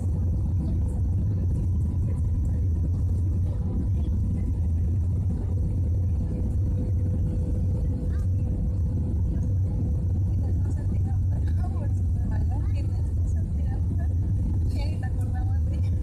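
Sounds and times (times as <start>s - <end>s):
airliner cabin drone: 0.0s - 16.0s
faint constant whine: 0.0s - 16.0s.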